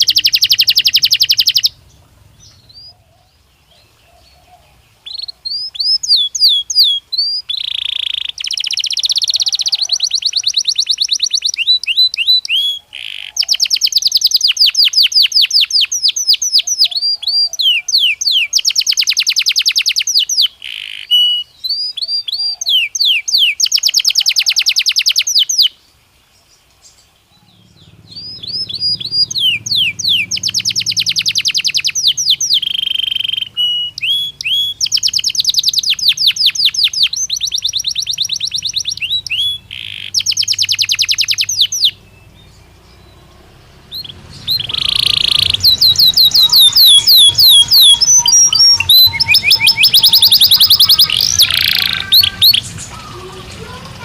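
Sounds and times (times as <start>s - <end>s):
canary singing: 0.0s - 25.8s, 26.8s - 54.0s.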